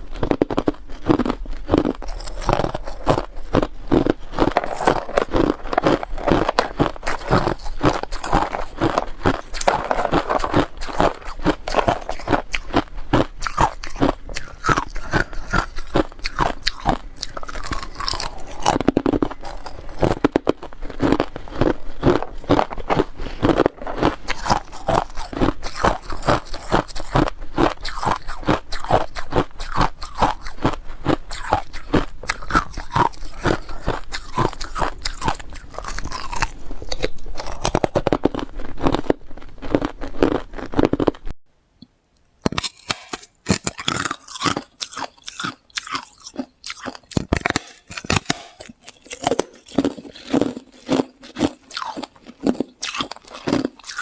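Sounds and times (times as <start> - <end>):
person chewing ice: 0.0 - 41.3, 42.4 - 54.0.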